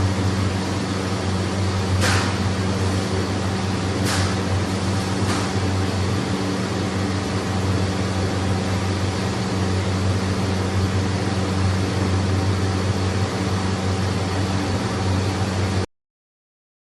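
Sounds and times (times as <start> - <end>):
low motor drone: 0.0 - 15.9.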